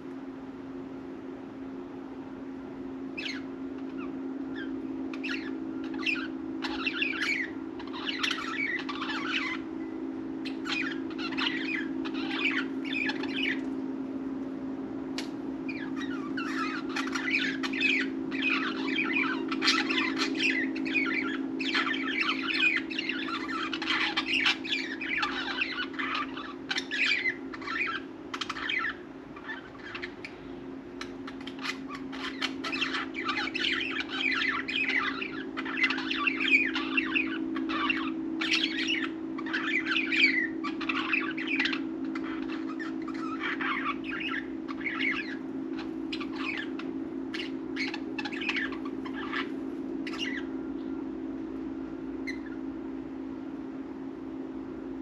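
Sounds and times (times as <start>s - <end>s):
steady low hum: 0.0s - 55.0s
budgerigars chattering and chirping: 3.2s - 9.6s, 10.4s - 13.6s, 15.7s - 30.4s, 31.0s - 50.5s, 52.2s - 52.6s.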